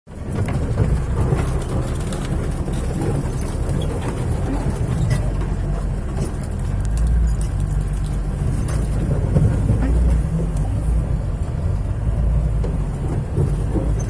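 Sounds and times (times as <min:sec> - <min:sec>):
vehicle engine rumble: 0:00.1 - 0:14.0.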